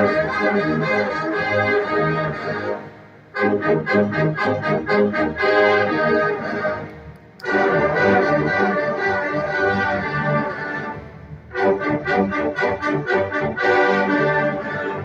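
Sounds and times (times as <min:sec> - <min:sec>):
brass hornline playing: 0:00.0 - 0:15.0.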